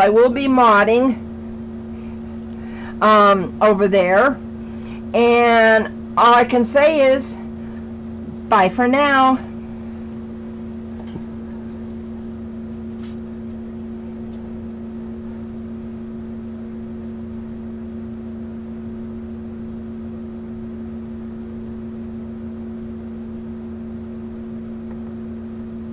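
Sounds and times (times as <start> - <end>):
electrical hum: 0.0 - 25.9.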